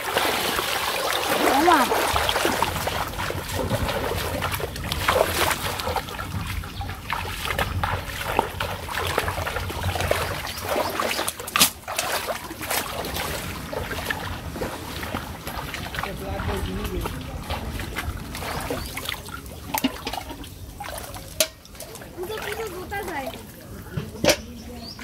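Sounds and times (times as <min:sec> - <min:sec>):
wading through water splashing: 0:00.0 - 0:25.0.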